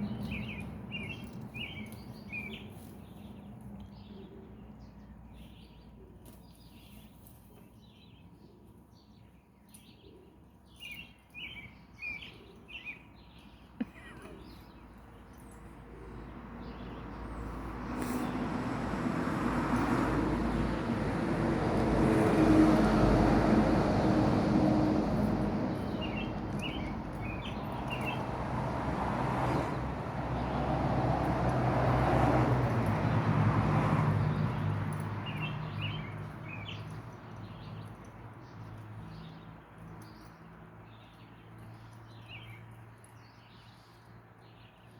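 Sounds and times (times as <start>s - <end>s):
vehicles passing: 0.0s - 8.1s, 12.7s - 44.9s.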